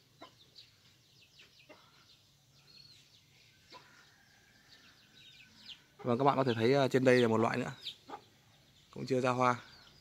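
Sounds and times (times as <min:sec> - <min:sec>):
faint high bird chirps: 0:00.0 - 0:10.0.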